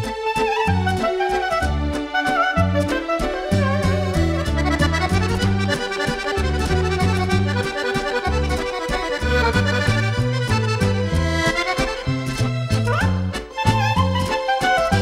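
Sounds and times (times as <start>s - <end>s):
accordion: 0.0s - 15.0s
dance band playing a waltz: 0.0s - 15.0s
electric bass: 0.0s - 15.0s.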